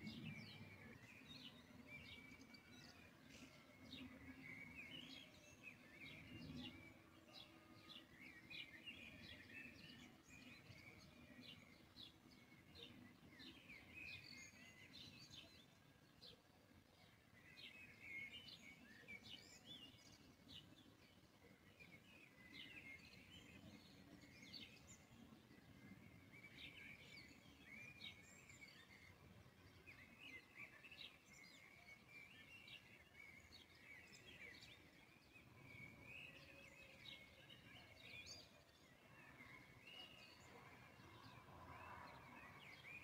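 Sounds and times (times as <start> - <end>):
faint birds chirping: 0.0 - 43.0.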